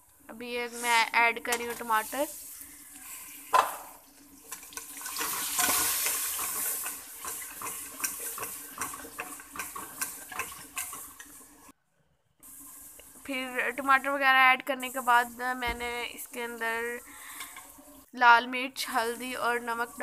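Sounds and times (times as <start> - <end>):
vegetables sizzling in oil: 0.0 - 11.7, 12.4 - 20.0.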